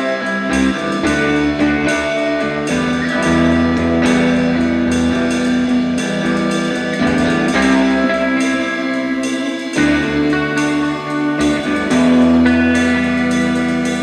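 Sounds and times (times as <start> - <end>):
instrumental rock band music: 0.0 - 14.0.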